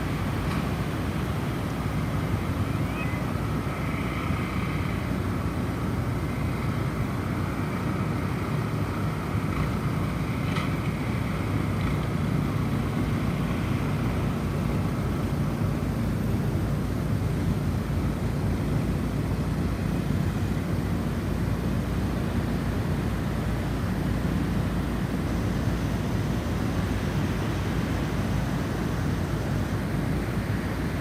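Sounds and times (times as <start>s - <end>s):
snowstorm wind blowing: 0.0s - 31.0s.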